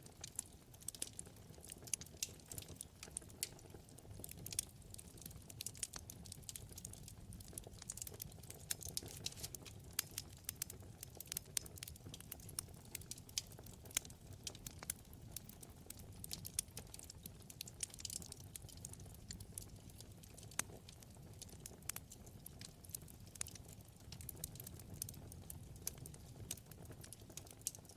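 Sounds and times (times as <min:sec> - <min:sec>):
low rumble of flame: 0:00.0 - 0:27.9
wood fire crackling: 0:00.0 - 0:27.9.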